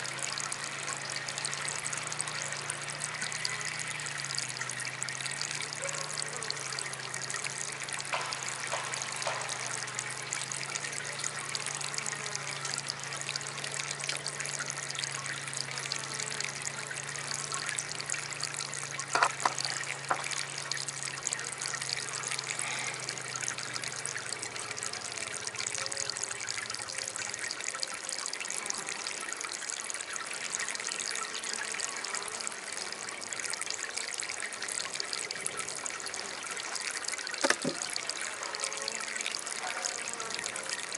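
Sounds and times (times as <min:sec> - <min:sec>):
water fountain trickling: 0:00.0 - 0:40.9.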